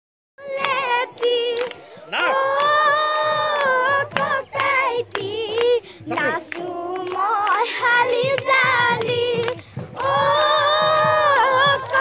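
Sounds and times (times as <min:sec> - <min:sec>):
girls singing together: 0:00.4 - 0:12.0
hand claps: 0:00.4 - 0:12.0.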